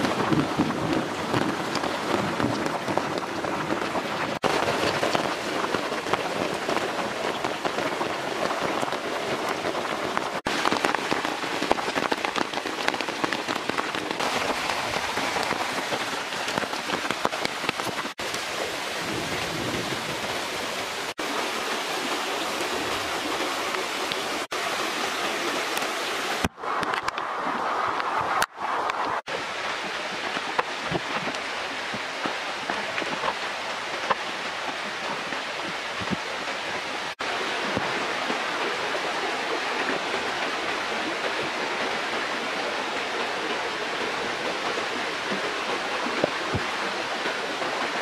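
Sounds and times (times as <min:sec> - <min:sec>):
river rushing: 0:00.0 - 0:48.0
steady rain falling: 0:00.0 - 0:48.0.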